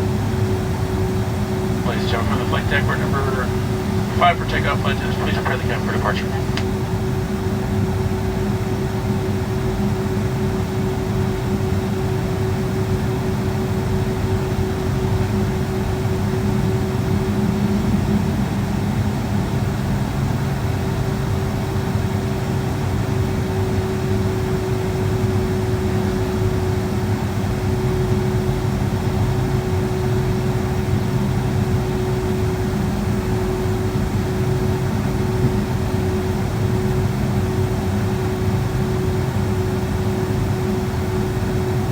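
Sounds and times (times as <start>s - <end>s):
idling jet engine drone: 0.0s - 41.9s.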